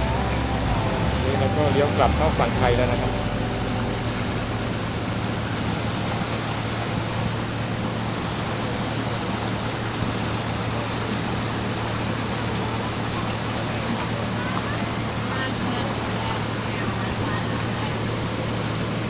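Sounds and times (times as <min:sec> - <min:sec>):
boat engine humming: 0:00.0 - 0:19.0
wind and water rushing: 0:00.0 - 0:19.0.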